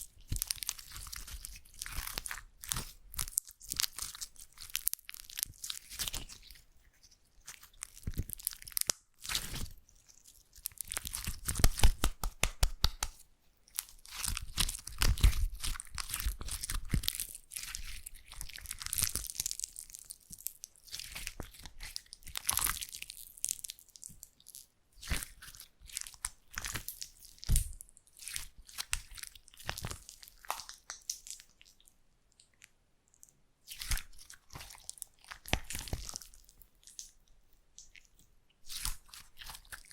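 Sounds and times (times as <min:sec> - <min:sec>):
slime crackling and popping: 0:00.0 - 0:31.8, 0:33.7 - 0:37.2, 0:37.8 - 0:39.9.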